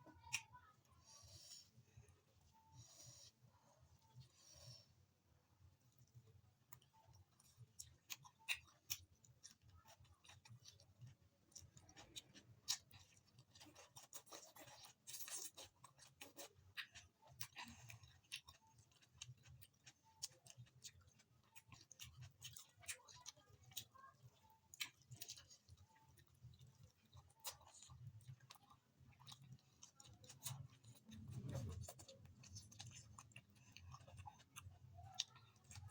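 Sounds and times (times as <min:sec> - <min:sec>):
quiet chewing: 0:00.0 - 0:35.9.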